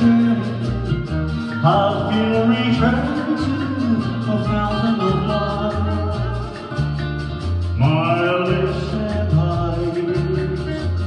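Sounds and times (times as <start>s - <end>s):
backing music with pulsing bass: 0.0s - 11.0s.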